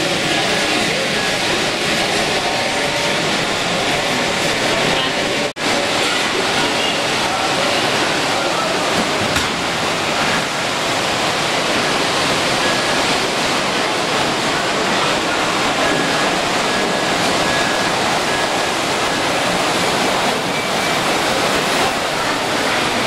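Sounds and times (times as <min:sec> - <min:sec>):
exhibition hall background noise: 0:00.0 - 0:23.0
model trains running: 0:00.0 - 0:23.0.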